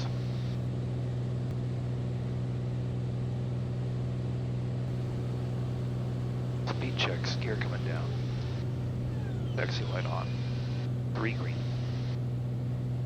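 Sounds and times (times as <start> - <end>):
aircraft engine and propeller droning: 0.0 - 13.0.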